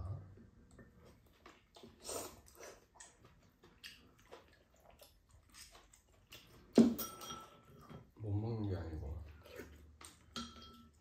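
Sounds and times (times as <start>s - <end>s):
noodles slurped and chewed: 0.5s - 6.8s, 7.6s - 11.0s.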